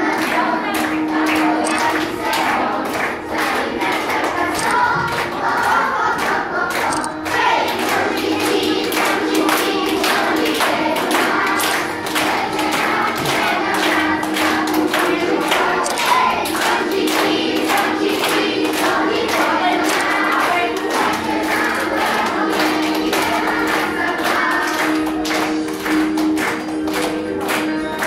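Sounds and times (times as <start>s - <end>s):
children singing: 0.0s - 26.1s
hand clapping: 0.0s - 28.0s
music: 0.0s - 28.0s.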